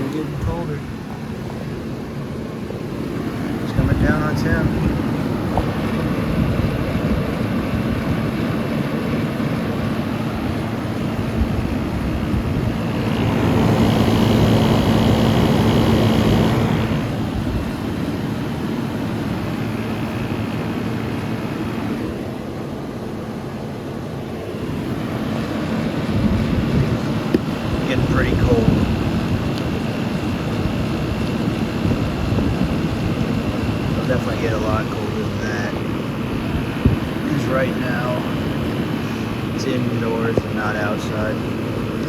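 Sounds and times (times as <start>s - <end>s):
air conditioner fans whooshing: 0.0s - 42.0s
compressor hum: 0.0s - 42.0s.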